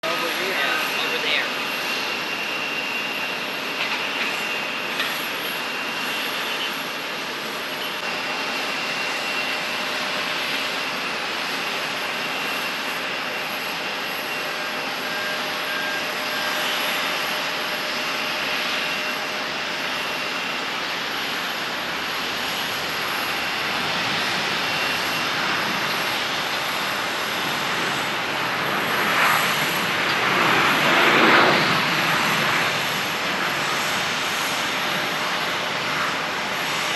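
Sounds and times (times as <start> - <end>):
jet engines rushing with high whine: 0.0 - 36.9.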